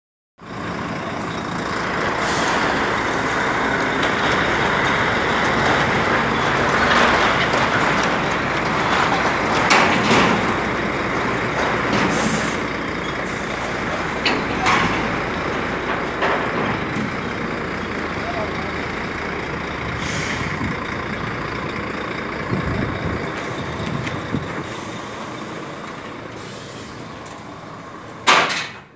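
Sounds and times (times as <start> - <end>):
heavy truck running: 0.4 - 28.9.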